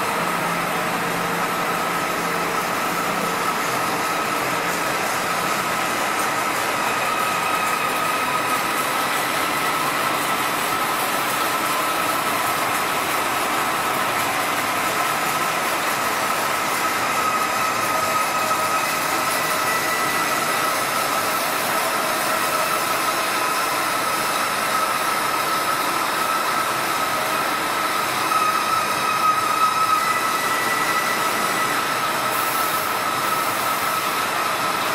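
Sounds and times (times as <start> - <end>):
lathe whining: 0.0 - 34.9.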